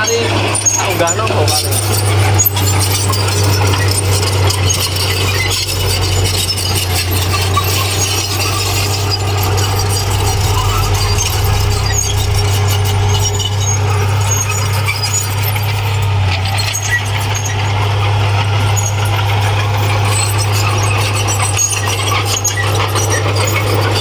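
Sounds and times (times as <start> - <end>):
diesel engine droning: 0.0 - 24.0
metallic clinks and squeaks: 0.0 - 24.0.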